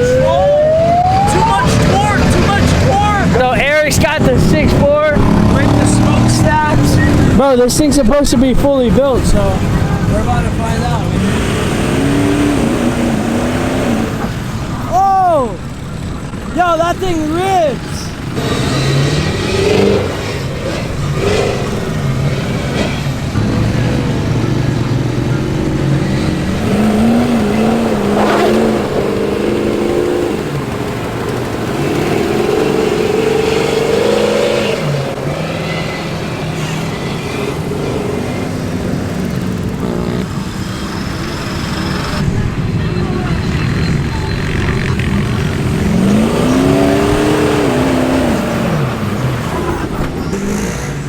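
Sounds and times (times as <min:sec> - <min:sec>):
truck engine revving: 0:00.0 - 0:51.0.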